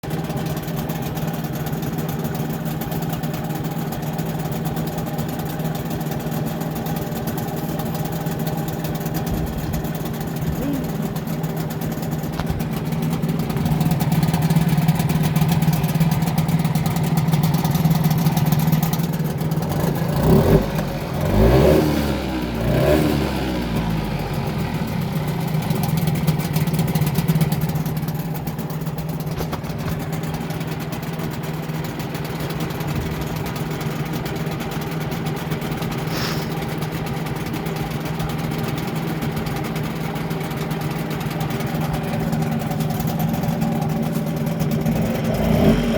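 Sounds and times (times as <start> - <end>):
outboard engine revving: 0.1 - 45.9.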